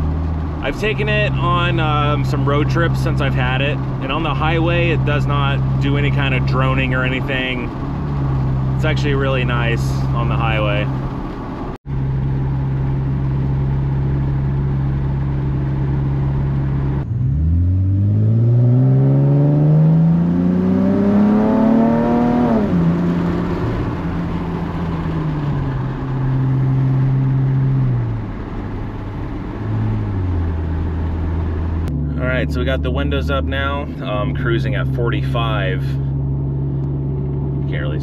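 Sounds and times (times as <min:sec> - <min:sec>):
car engine accelerating: 0:00.0 - 0:38.0
car exhaust cruising: 0:00.0 - 0:38.0.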